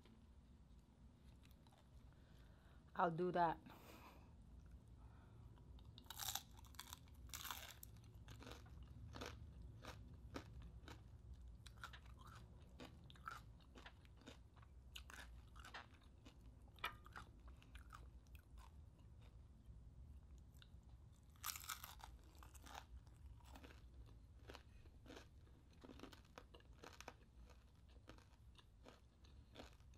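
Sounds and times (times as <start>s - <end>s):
crunching and chewing fried food: 0.7s - 2.7s, 4.6s - 29.9s.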